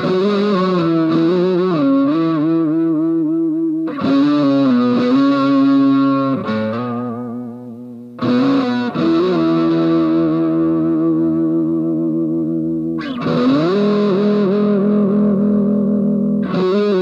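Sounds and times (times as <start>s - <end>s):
electric guitar chords with vibrato: 0.0s - 17.0s.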